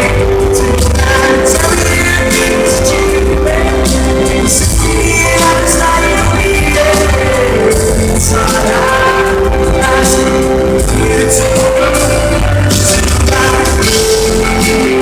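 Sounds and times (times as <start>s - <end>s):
live pop ballad with singer: 0.0s - 15.0s.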